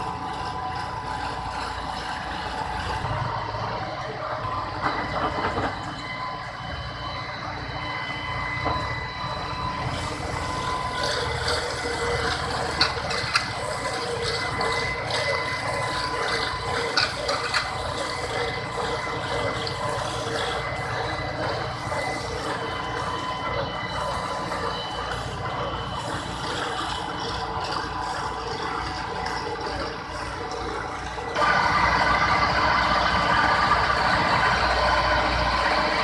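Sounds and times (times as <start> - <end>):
high steady whine: 0.0 - 36.0
machinery clatter: 0.0 - 36.0
tractor engine and baler running: 0.0 - 36.0.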